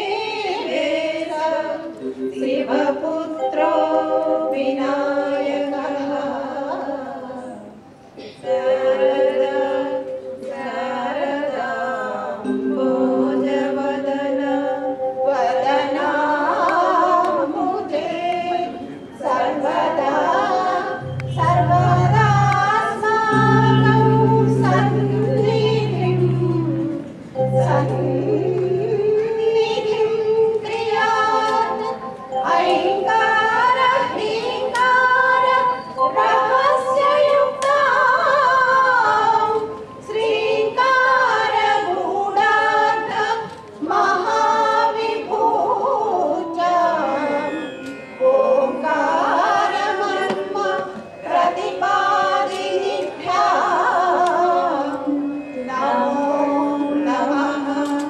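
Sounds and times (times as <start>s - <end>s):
keyboard accompaniment: 0.0s - 58.0s
women singing together: 0.0s - 58.0s.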